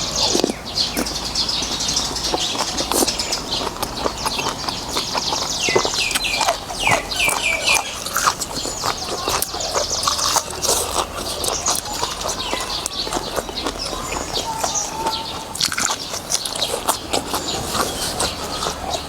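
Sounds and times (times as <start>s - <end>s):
birds chirping: 0.0s - 19.0s
chewing and slurping noodles: 0.0s - 19.0s.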